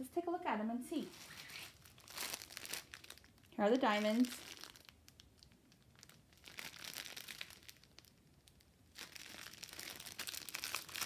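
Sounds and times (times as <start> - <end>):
plastic bag crinkling: 1.0 - 11.0.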